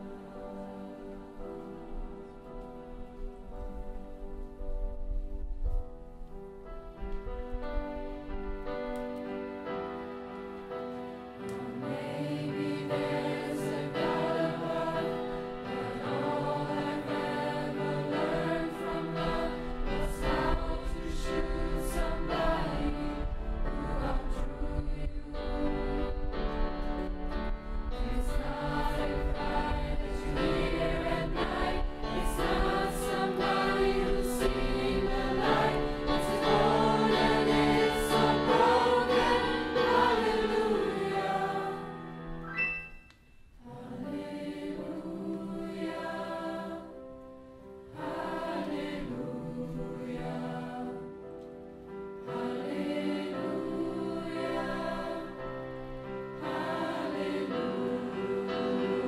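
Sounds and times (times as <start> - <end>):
choir singing in parts: 0.0 - 4.0, 9.0 - 42.4, 43.6 - 59.0.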